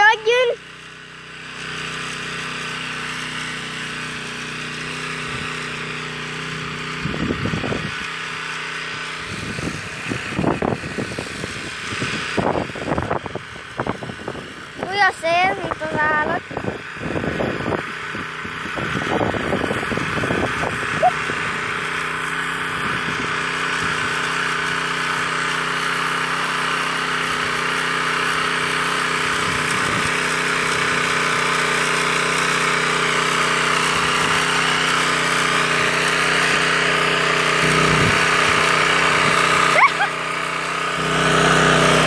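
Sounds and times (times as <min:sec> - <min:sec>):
tiller engine churning soil: 0:00.0 - 0:42.0.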